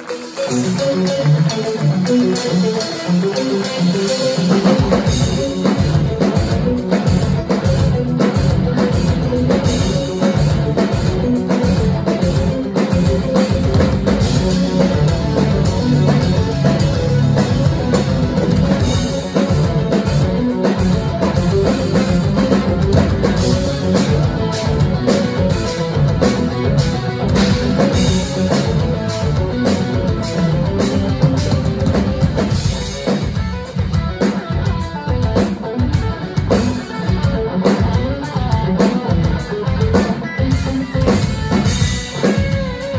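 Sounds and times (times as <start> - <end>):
loud progressive rock band: 0.0 - 42.9.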